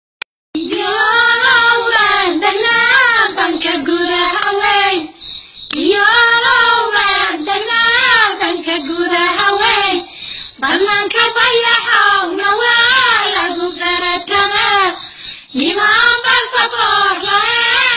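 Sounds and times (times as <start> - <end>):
high voice singing folk song: 0.6 - 17.9.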